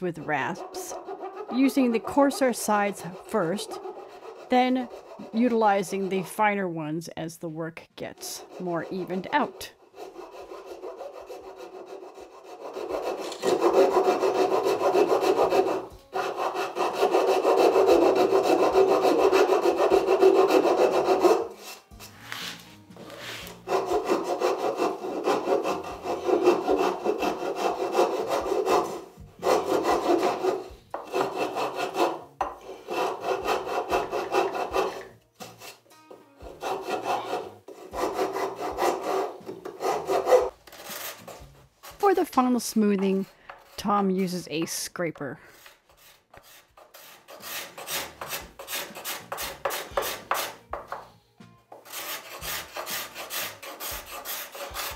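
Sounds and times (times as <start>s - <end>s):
hand rasp rasping wood: 0.0s - 6.2s, 8.4s - 35.8s, 36.4s - 42.2s, 45.5s - 50.6s, 51.8s - 54.9s.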